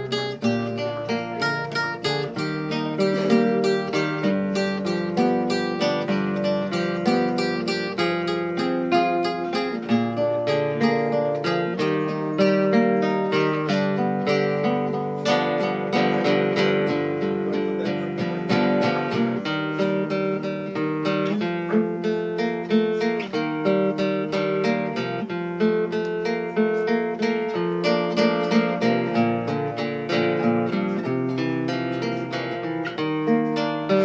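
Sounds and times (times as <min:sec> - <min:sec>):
classical guitar arpeggios: 0:00.0 - 0:34.0.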